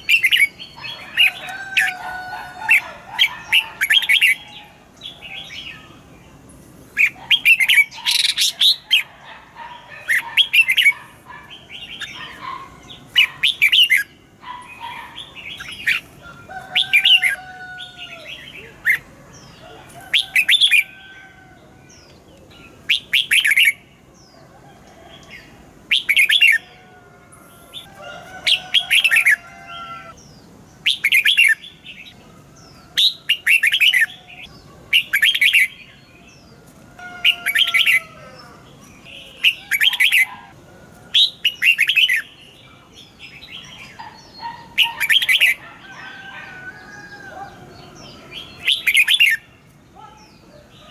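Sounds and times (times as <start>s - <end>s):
bird chirping phrases: 0.0s - 16.2s, 16.8s - 24.5s, 25.2s - 40.4s, 41.1s - 50.9s.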